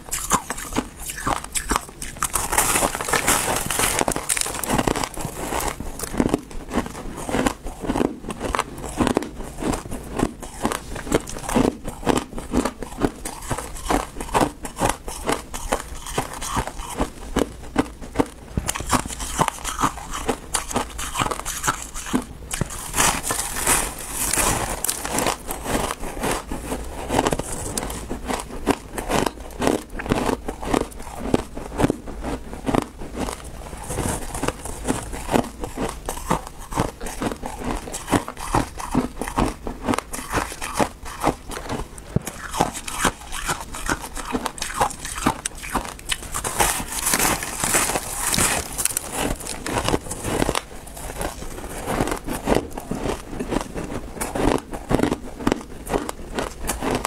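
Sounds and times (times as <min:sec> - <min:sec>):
chewing crunching ice: 0:00.0 - 0:57.0.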